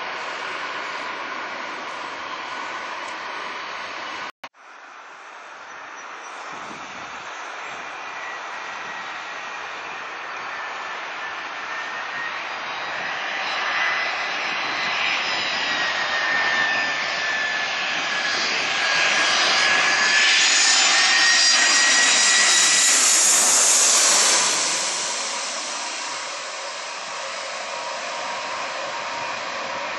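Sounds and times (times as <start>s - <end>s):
jet airliner passing overhead: 0.0s - 4.3s, 4.9s - 29.9s.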